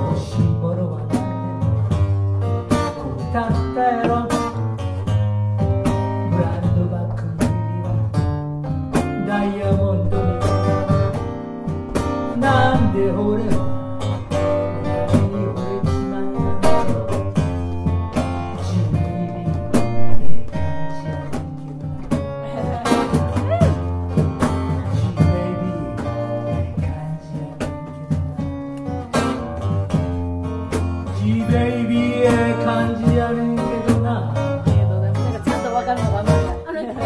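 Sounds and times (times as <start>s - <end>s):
acoustic guitar playing blues: 0.0s - 37.0s
percussion keeping time: 1.1s - 37.0s.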